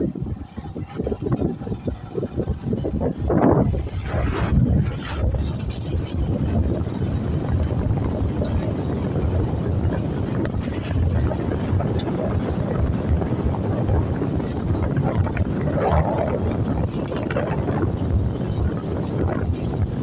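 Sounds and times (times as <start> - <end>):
vehicle rumble: 0.0 - 20.0
wind buffeting microphone: 0.0 - 20.0.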